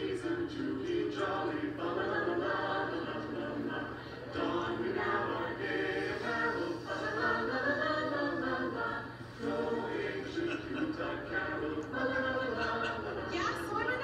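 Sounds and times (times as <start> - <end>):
choir singing slow melody: 0.0 - 13.3.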